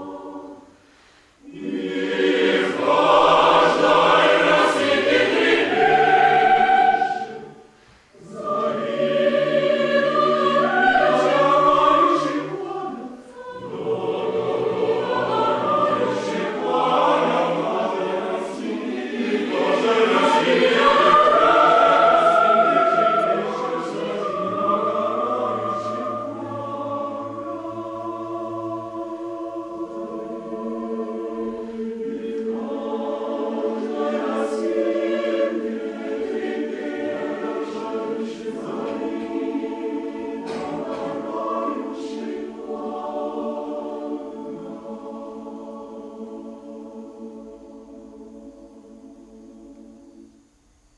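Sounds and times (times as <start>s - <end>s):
choir singing: 0.0s - 0.8s, 1.4s - 50.5s.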